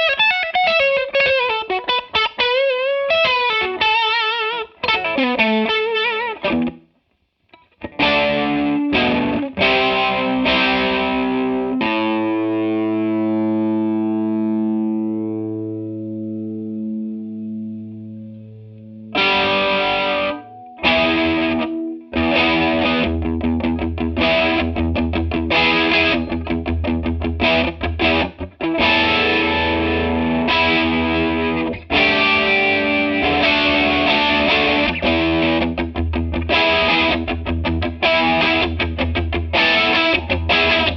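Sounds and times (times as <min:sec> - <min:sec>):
electric guitar with chorus: 0:00.0 - 0:40.9.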